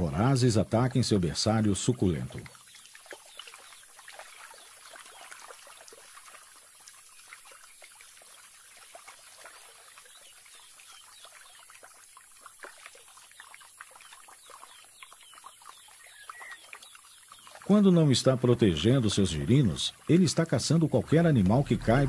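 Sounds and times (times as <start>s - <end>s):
water trickling and dripping: 0.0s - 22.0s.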